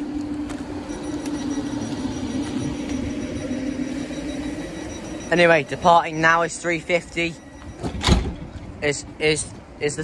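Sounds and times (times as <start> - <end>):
train equipment humming: 0.0 - 9.8.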